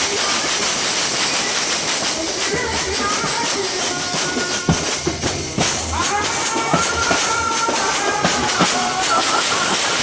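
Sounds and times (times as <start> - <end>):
drum strikes: 0.0 - 10.0
steady hiss: 0.0 - 10.0.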